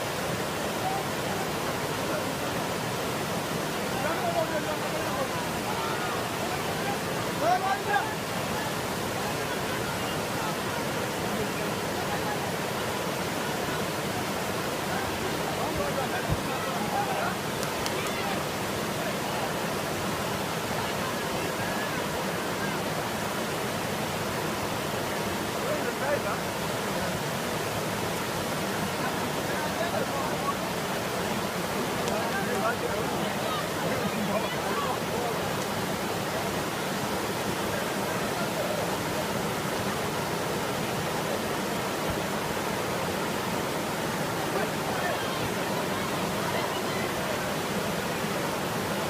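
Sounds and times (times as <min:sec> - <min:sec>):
rushing floodwater: 0:00.0 - 0:49.0.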